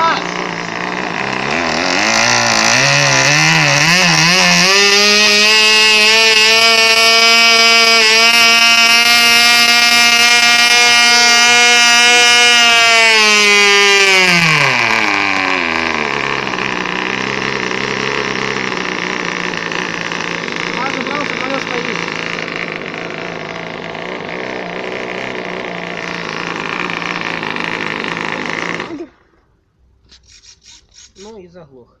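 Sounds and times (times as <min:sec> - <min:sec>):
model engine running: 0:00.0 - 0:29.4.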